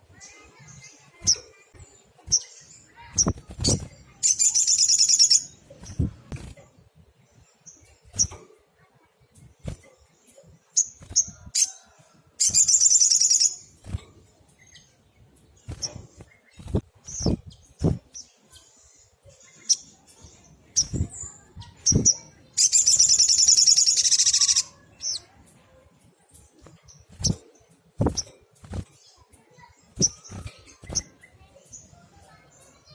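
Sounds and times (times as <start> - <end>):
songbird chirping: 0.0 - 32.9.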